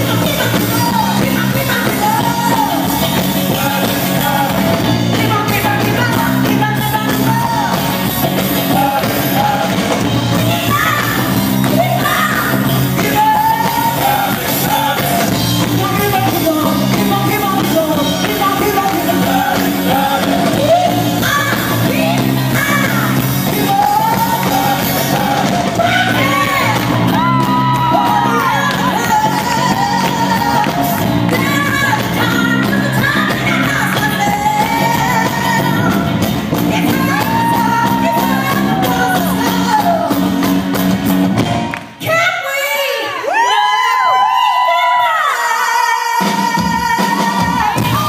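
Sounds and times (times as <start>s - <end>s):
woman singing lead: 0.0s - 40.7s, 41.9s - 48.0s
live band with drums and guitar: 0.0s - 42.5s, 43.2s - 48.0s.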